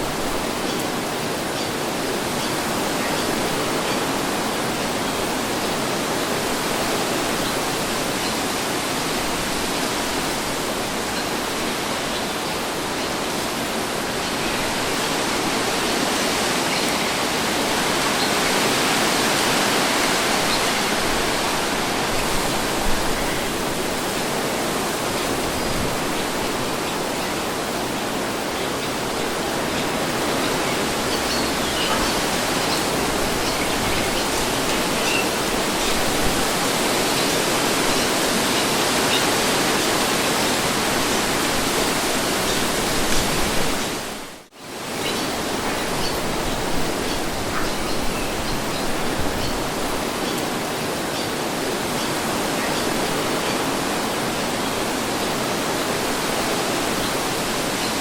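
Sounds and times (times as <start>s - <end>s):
steady breeze: 0.0s - 58.0s.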